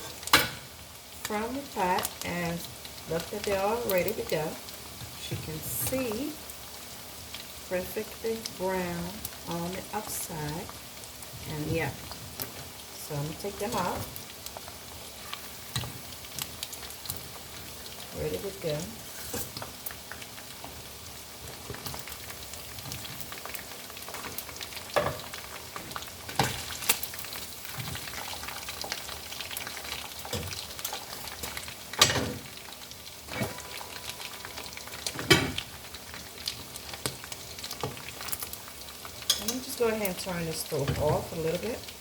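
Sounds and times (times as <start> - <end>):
chicken sizzling in hot oil: 0.0 - 42.0.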